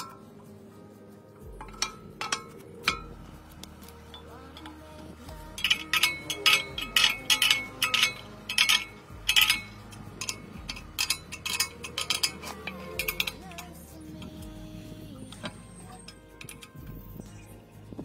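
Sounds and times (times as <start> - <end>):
spanner clinking on metal fitting: 1.4 - 14.6, 15.2 - 18.0.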